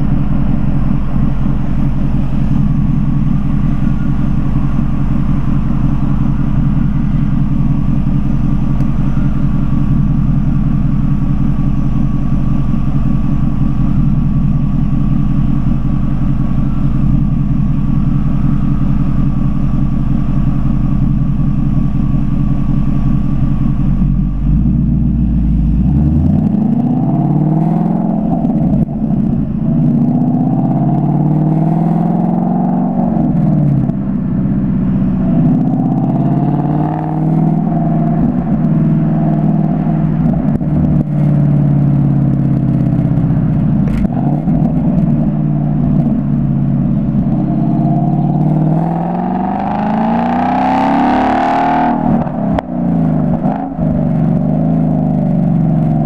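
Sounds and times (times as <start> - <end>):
car engine revving and accelerating: 0.0 - 56.0.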